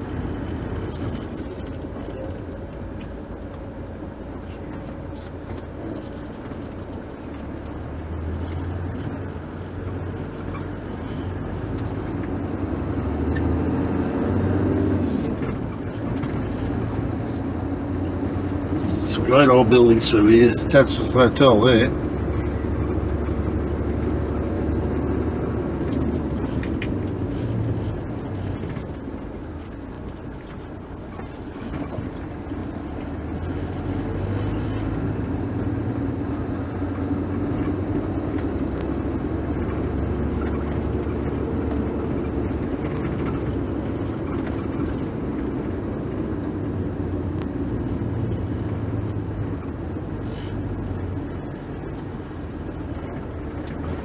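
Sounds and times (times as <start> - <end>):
car engine and road hum: 0.0 - 54.0.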